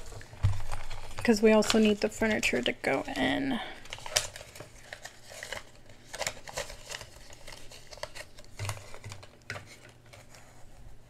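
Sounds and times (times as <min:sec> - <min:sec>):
paper and plastic rustling: 0:00.0 - 0:11.0.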